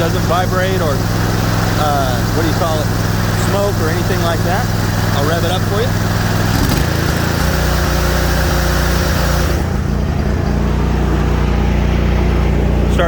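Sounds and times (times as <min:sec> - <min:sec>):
lawn mower engine revving: 0:00.0 - 0:13.0.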